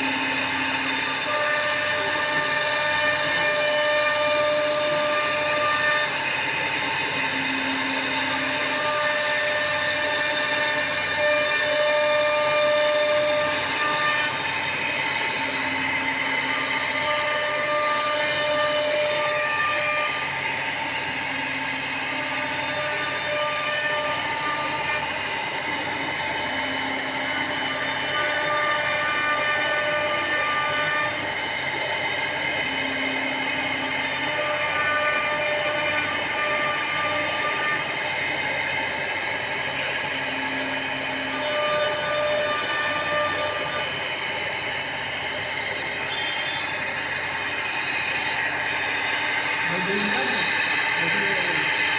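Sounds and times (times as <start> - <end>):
router cutting wood: 0.0 - 51.9
router spindle whining: 0.0 - 51.9.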